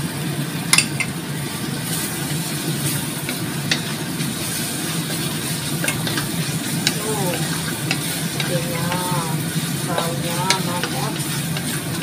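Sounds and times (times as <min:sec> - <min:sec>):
spice paste sizzling in wok: 0:00.0 - 0:12.0
steady low hum: 0:00.7 - 0:12.0
wooden spatula stirring: 0:01.9 - 0:12.0.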